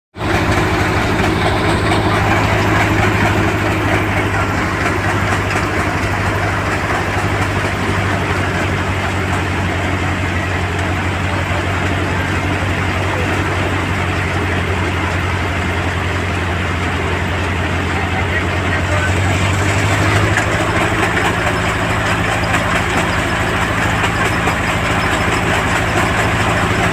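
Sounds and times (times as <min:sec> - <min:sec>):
deep engine hum: 0:00.2 - 0:26.9
machinery rushing noise: 0:00.2 - 0:26.9.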